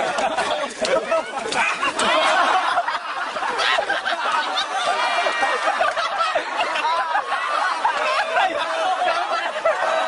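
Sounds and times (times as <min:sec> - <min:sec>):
crowd laughing and shouting: 0:00.0 - 0:10.0.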